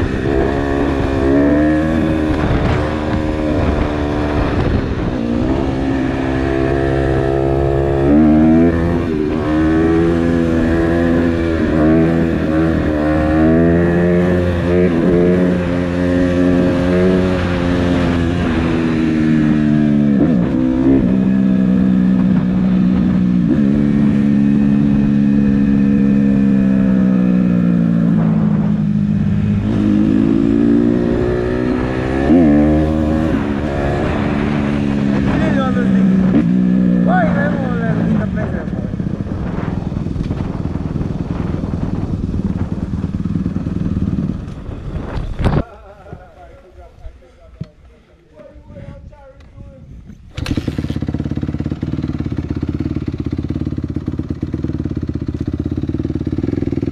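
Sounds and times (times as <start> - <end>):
dirt bike engine revving: 0.0 - 46.0, 50.3 - 56.9.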